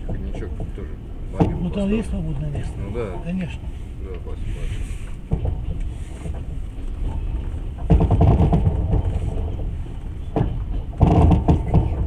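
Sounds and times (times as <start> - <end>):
low running rumble: 0.0 - 12.0
train carriage creaking and rattling: 0.0 - 12.0.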